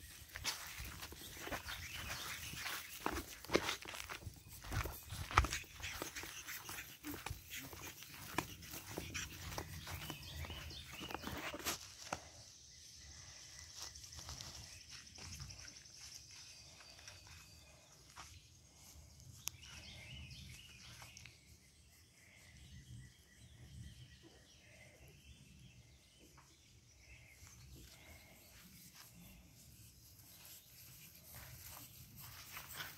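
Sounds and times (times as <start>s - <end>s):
faint outdoor background noise: 0.0s - 32.9s.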